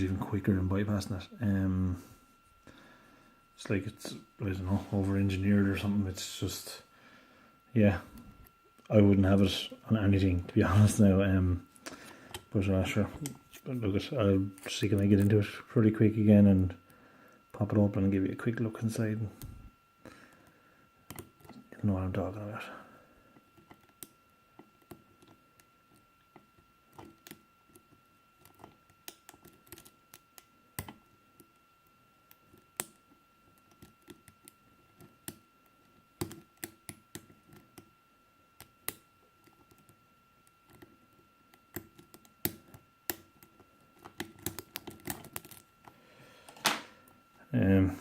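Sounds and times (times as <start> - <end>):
faint steady whine: 0.0 - 48.0.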